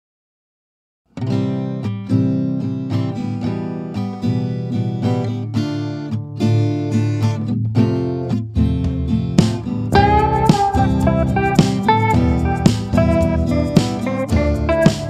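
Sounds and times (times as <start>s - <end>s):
acoustic guitar plucking and strumming: 1.1s - 15.0s.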